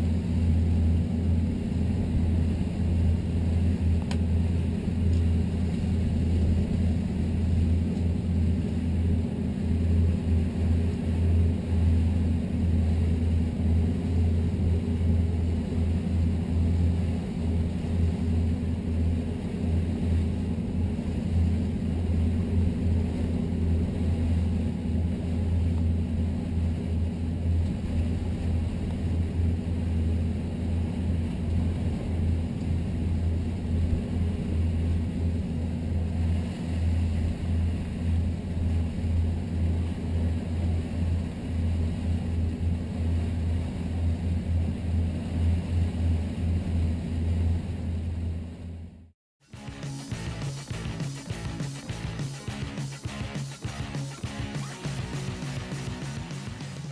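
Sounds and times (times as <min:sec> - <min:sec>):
boat engines rumbling: 0:00.0 - 0:56.9.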